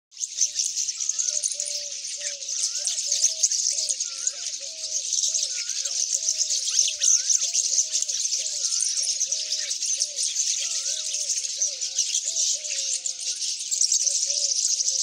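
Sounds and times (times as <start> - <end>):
high-pitched bird chirping: 0.1 - 15.0.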